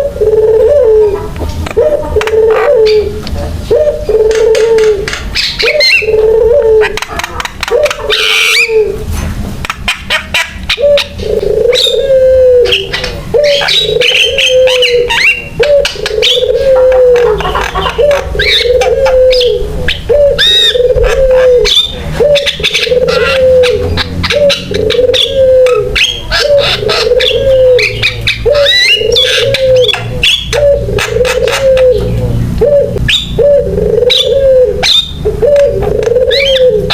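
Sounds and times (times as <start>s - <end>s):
low cooing note: 0.0s - 9.1s, 10.7s - 36.9s.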